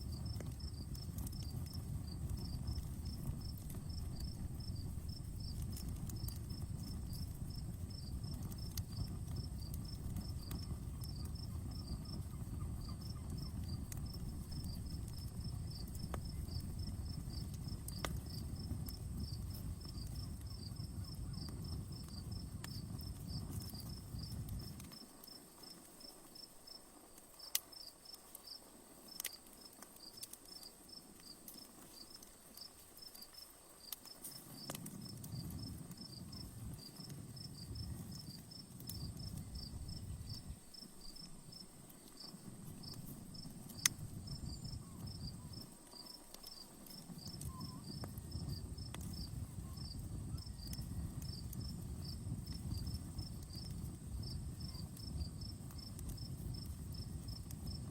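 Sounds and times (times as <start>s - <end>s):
campfire crackling pops: 0.0s - 57.9s
crickets chirping: 0.0s - 57.9s.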